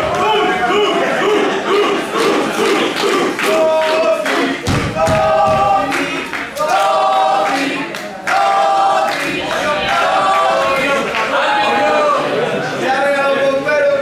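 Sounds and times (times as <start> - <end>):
crowd chanting: 0.0 - 14.0.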